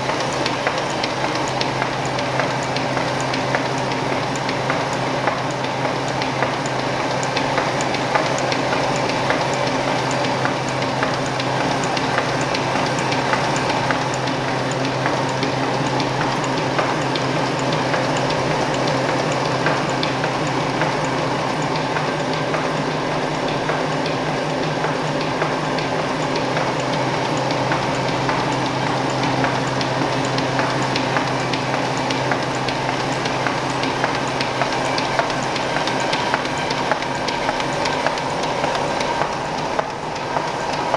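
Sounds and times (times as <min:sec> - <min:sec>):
low machine hum: 0:00.0 - 0:40.9
machine clatter of rollers: 0:00.0 - 0:40.9
sharp machine ticks: 0:00.0 - 0:40.9.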